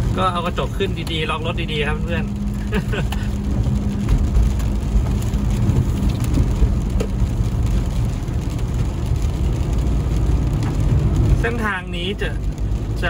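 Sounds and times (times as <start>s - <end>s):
rain hitting car: 0.0s - 13.0s
road and engine rumble: 0.0s - 13.0s.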